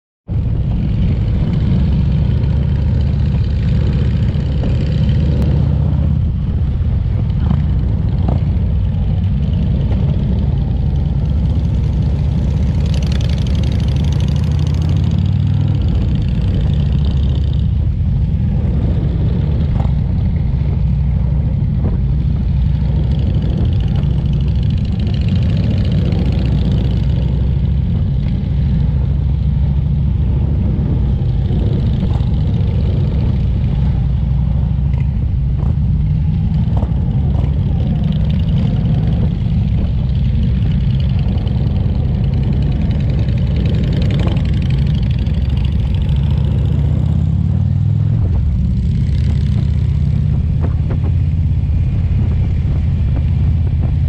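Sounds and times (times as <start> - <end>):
motorcycle engines running: 0.3 - 54.0.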